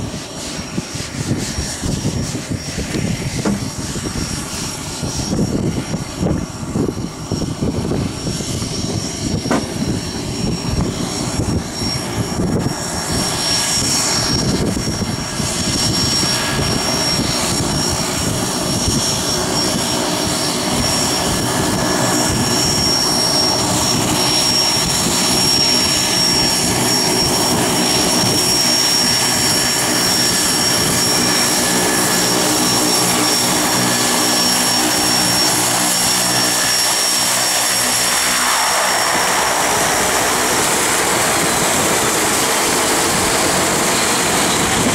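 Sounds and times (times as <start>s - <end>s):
floatplane engine at low power: 0.0s - 44.9s
turbine high whine: 0.0s - 44.9s.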